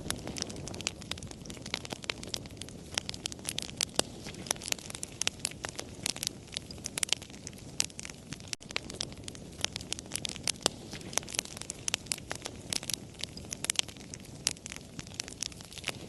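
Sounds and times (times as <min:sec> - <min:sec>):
campfire crackling and popping: 0:00.0 - 0:16.0
low rush of burning fire: 0:00.0 - 0:16.0.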